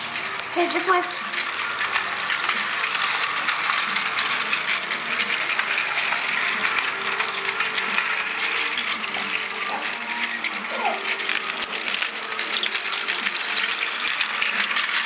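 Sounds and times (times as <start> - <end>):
toy trains clicking rattle: 0.0 - 15.0.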